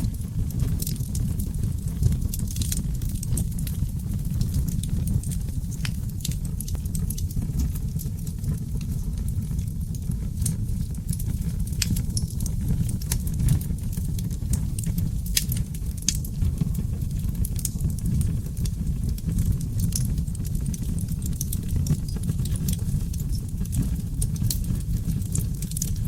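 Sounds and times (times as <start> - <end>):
fire crackles and pops: 0.0 - 26.0
low rumble of flames: 0.0 - 26.0.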